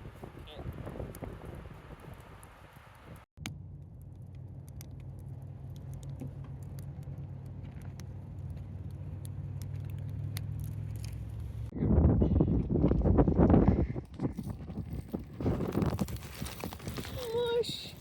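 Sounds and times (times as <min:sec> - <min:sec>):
campfire crackling: 0:00.0 - 0:11.7, 0:14.3 - 0:18.0
fire pops: 0:00.0 - 0:11.7, 0:14.0 - 0:18.0.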